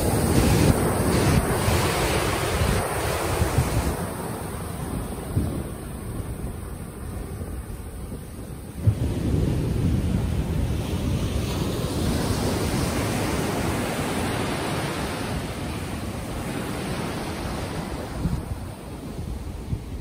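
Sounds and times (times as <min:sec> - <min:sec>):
ocean surf washing in: 0:00.0 - 0:20.0
wind buffeting microphone: 0:00.0 - 0:20.0.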